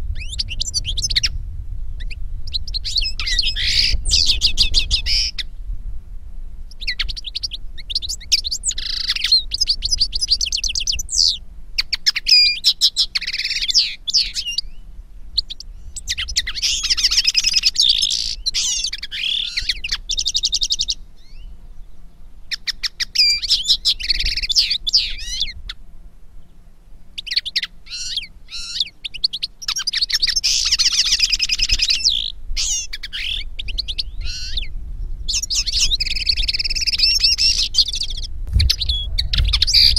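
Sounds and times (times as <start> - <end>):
songbirds twittering: 0.0 - 5.6, 6.7 - 39.9.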